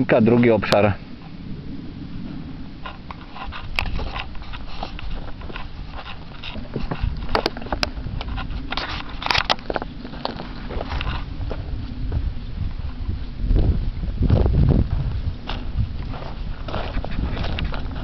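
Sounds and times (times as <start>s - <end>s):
low rumble: 0.0s - 18.0s
footsteps crunching on branches: 2.9s - 13.0s, 13.6s - 18.0s.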